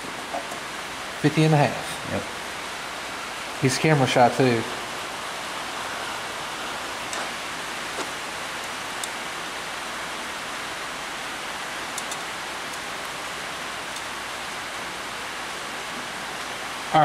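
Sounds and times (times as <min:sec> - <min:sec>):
rain on a tin roof: 0:00.0 - 0:17.0.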